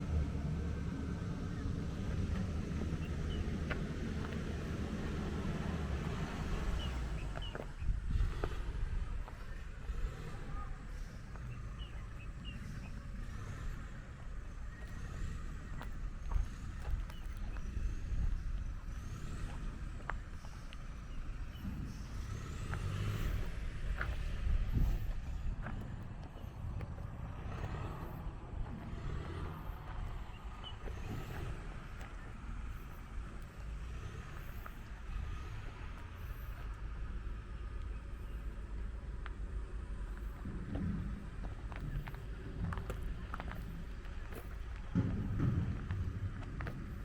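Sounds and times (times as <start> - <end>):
backhoe engine running: 0.0 - 47.0.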